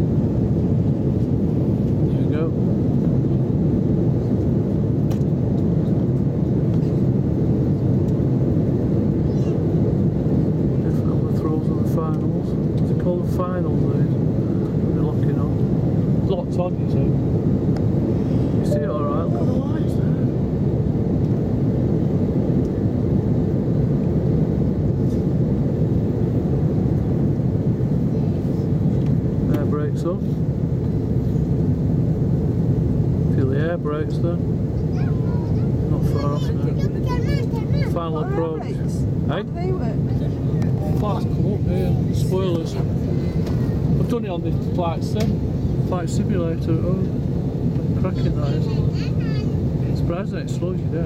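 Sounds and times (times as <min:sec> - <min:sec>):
jet engine rumble inside cabin: 0:00.0 - 0:51.0.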